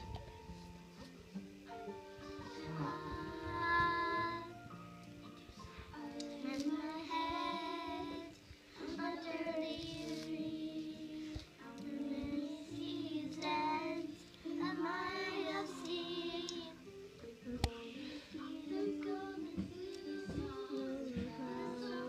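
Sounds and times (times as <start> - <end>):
girls singing: 2.4 - 4.6, 5.9 - 22.0.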